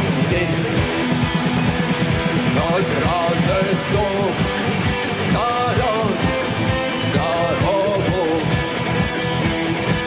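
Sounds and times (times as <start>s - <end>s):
rock band playing live: 0.0s - 10.0s
sliding lead guitar line: 0.0s - 10.0s.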